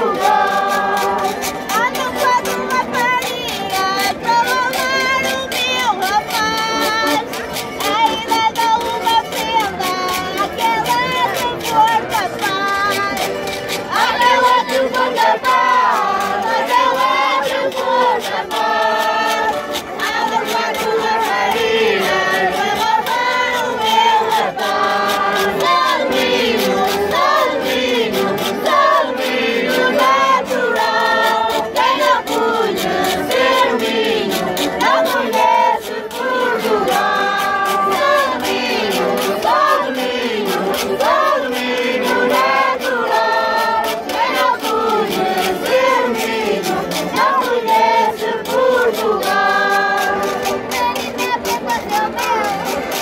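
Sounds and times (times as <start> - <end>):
button accordion: 0.0 - 53.0
other voices singing: 0.0 - 53.0.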